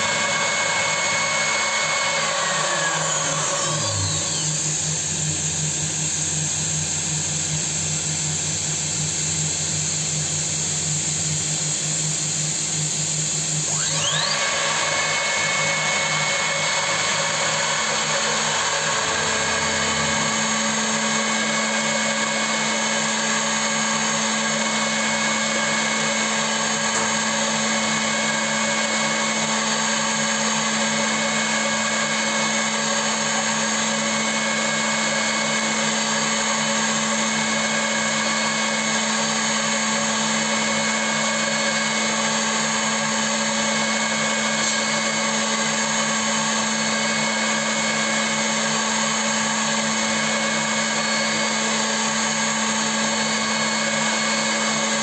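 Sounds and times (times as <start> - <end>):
milling machine whine and hum: 0.0 - 55.0.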